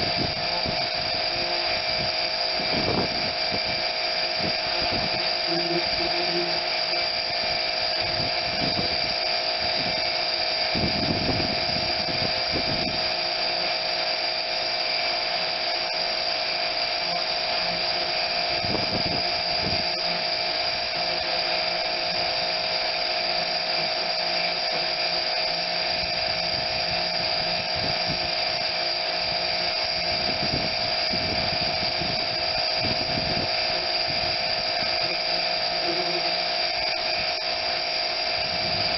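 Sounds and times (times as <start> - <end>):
low rumbles of spray: 0.0 - 38.9
pressure washer whine: 0.0 - 38.9
water spray hissing: 0.0 - 38.9.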